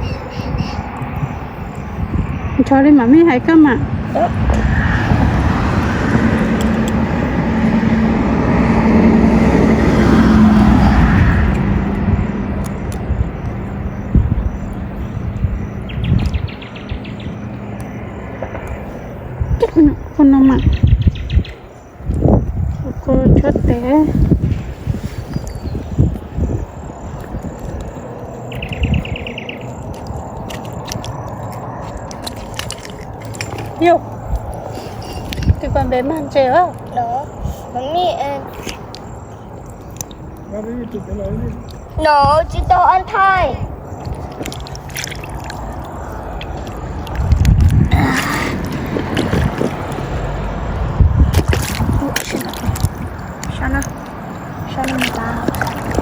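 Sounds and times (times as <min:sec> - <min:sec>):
engine humming and rumbling: 0:00.0 - 0:56.0.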